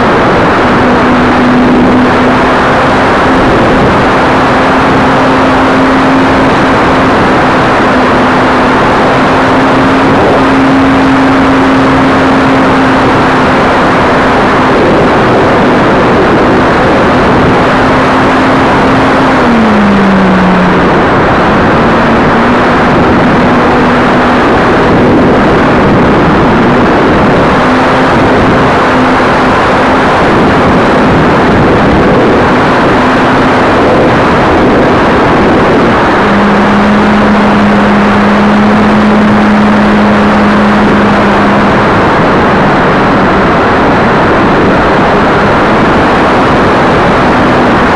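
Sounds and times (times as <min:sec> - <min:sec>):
model plane motor tone: 0:00.0 - 0:45.8
wind rush on microphone: 0:00.0 - 0:47.9.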